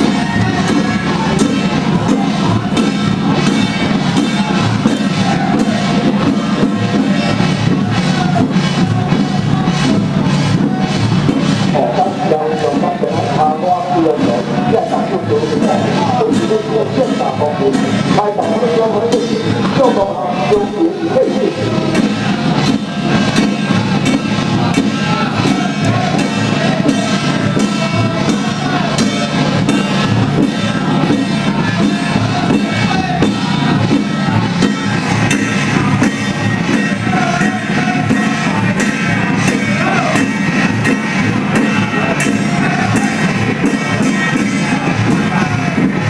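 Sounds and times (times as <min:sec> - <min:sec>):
drums and struck percussion: 0:00.0 - 0:46.0
voices chanting: 0:00.0 - 0:46.0.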